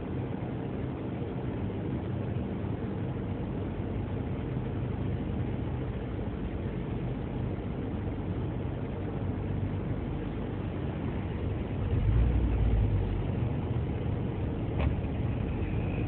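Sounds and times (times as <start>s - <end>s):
car running with generator whine: 0.0s - 16.0s.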